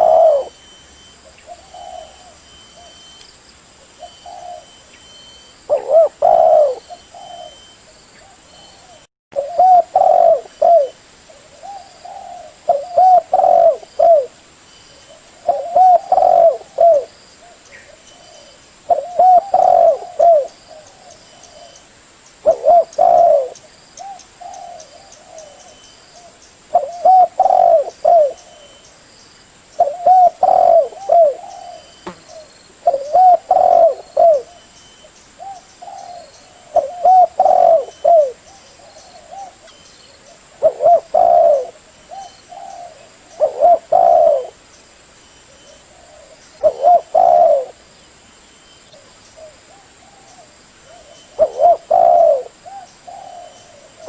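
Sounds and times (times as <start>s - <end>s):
dove cooing: 0.0s - 3.1s, 3.9s - 5.0s, 5.6s - 14.4s, 15.0s - 21.8s, 22.4s - 28.8s, 29.8s - 34.7s, 35.4s - 44.6s, 45.5s - 47.8s, 48.9s - 54.0s.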